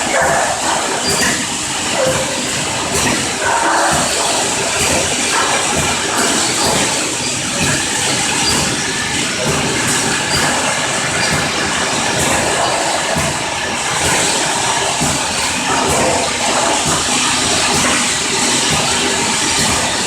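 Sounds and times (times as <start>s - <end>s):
filling machine running: 0.0s - 20.0s.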